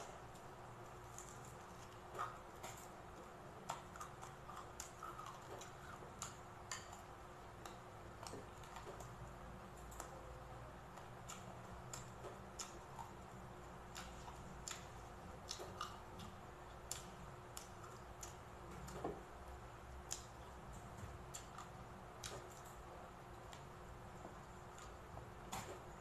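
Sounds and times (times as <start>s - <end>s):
crunchy chewing: 0.0s - 19.4s, 20.0s - 26.0s
faint steady hum: 0.0s - 26.0s.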